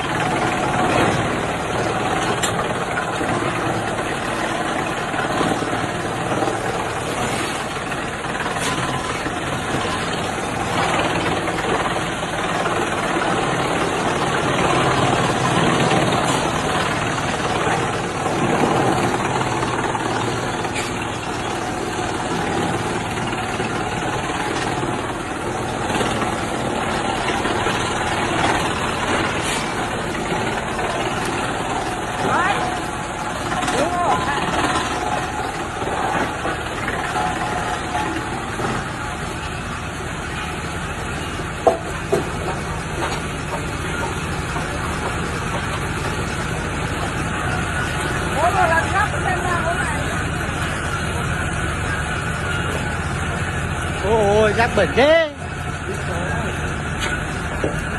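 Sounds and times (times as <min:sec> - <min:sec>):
wood chipper running: 0:00.0 - 0:57.9.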